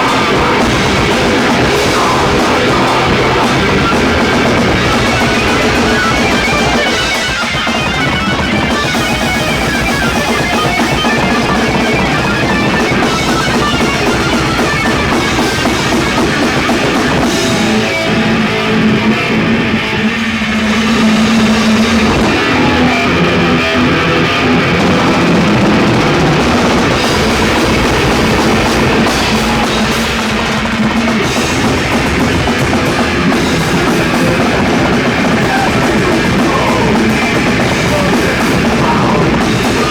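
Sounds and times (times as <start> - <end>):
live heavy metal band playing: 0.0 - 39.9.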